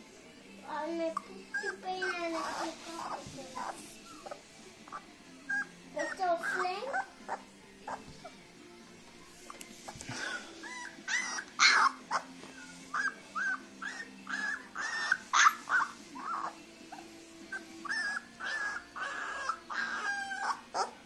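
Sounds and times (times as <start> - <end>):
puppy whining and yipping: 1.2 - 8.4, 10.1 - 21.0.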